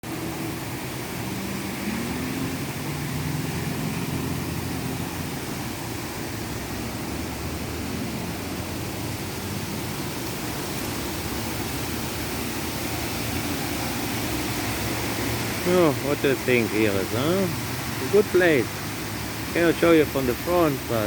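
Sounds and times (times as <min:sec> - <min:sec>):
rushing background noise: 0:00.0 - 0:21.0.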